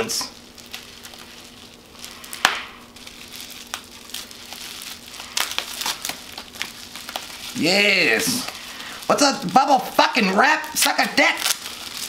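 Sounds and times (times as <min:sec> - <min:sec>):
bubble wrap crinkling: 0:00.0 - 0:12.0
bubble wrap snap: 0:00.2 - 0:10.0, 0:10.6 - 0:12.0.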